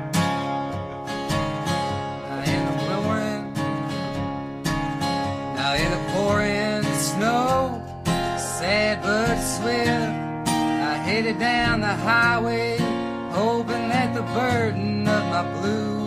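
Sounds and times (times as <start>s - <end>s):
acoustic guitar strumming: 0.0s - 16.0s
sliding lead guitar melody: 0.0s - 16.0s.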